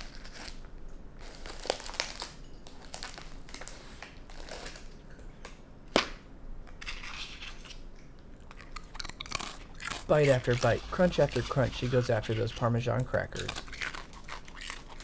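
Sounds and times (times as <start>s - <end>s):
raccoon crunching crackers: 0.0s - 6.1s, 6.7s - 15.0s.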